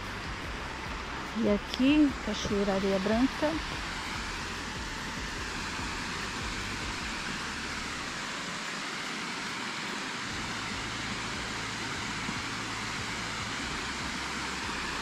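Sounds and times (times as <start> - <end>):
small waterfall rushing hiss: 0.0 - 15.0.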